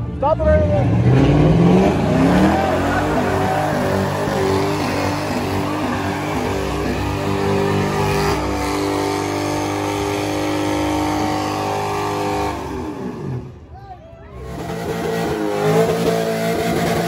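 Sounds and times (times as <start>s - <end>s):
car engine at high revs: 0.5s - 13.7s, 14.4s - 17.0s.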